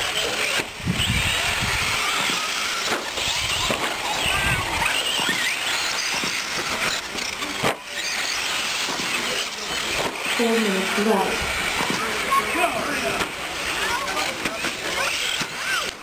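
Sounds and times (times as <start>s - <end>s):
rc truck motors whining: 0.0s - 16.0s.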